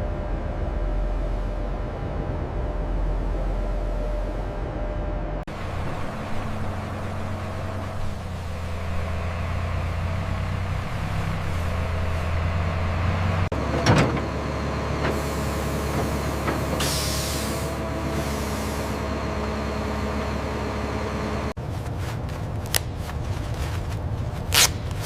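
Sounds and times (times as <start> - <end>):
machinery humming: 0.0 - 21.6.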